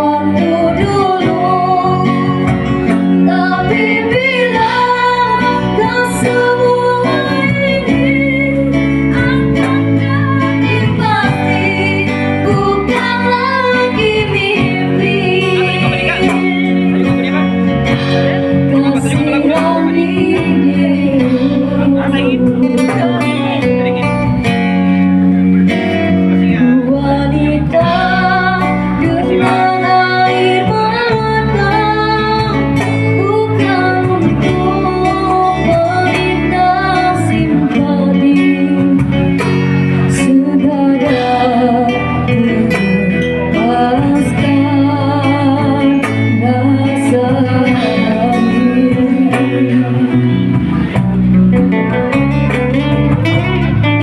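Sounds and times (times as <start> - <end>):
women singing a pop duet: 0.0 - 17.6, 18.6 - 23.4, 26.6 - 50.5
live band playing: 0.0 - 54.0.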